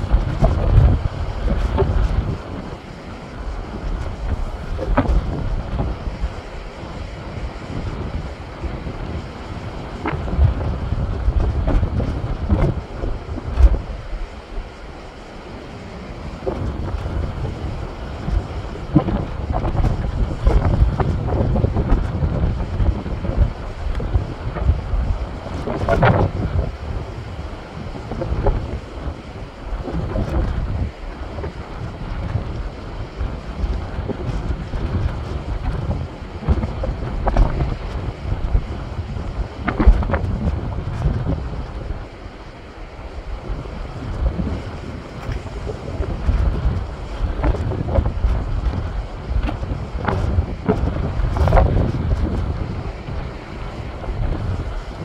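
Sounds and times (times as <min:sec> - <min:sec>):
waves breaking over rocks: 0:00.0 - 0:55.0
wind buffeting microphone: 0:00.0 - 0:55.0.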